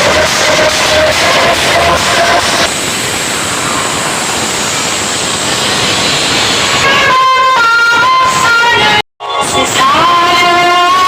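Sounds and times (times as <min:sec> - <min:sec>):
loud rushing hiss effect: 0:00.0 - 0:11.0.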